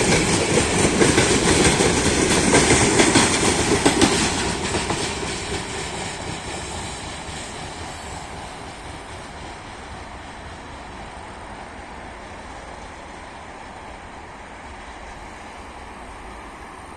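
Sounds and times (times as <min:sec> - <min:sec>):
freight train rumbling on rails: 0:00.0 - 0:16.9.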